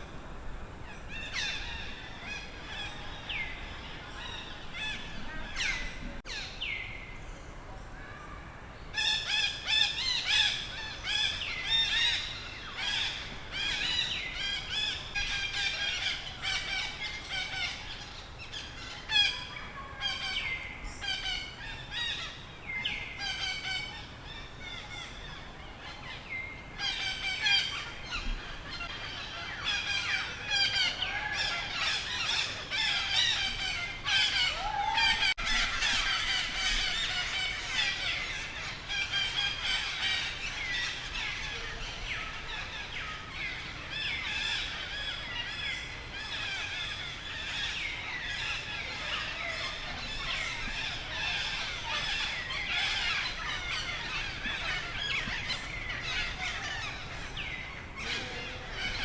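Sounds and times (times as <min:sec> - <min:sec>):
small birds chirping: 0:08.8 - 0:59.0.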